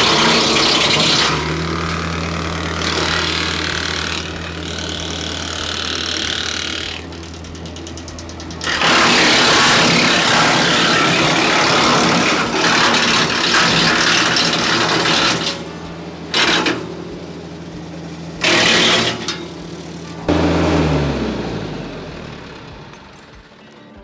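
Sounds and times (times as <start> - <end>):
tractor engine running: 0.0 - 24.0
wood chipper chewing brush: 0.0 - 24.0.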